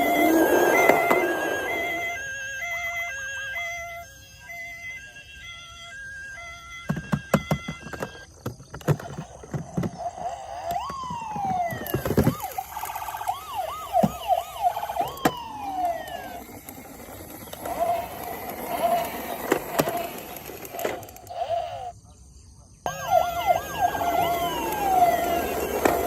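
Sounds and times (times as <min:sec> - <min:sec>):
toy electronic siren: 0:00.0 - 0:22.0, 0:22.9 - 0:26.0.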